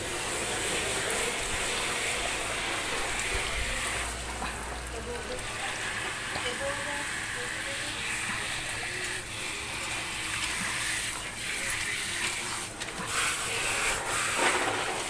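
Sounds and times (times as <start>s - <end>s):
hose spray hissing on dog: 0.0s - 15.0s.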